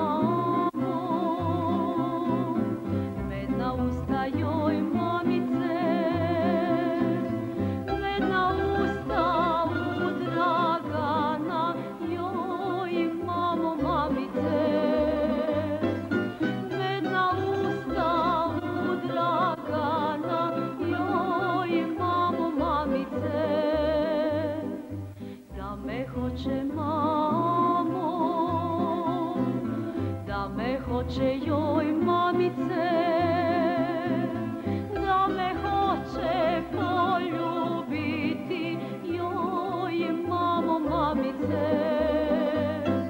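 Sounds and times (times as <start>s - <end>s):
instrumental accompaniment with bass: 0.0s - 43.0s
woman singing with vibrato: 0.0s - 43.0s.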